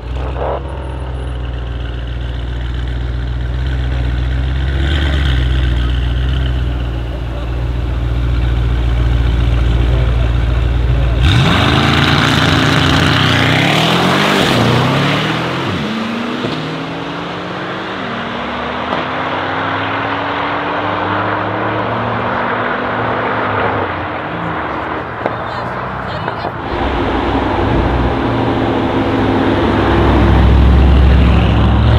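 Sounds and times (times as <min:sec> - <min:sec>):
car engines accelerating: 0:00.0 - 0:31.9.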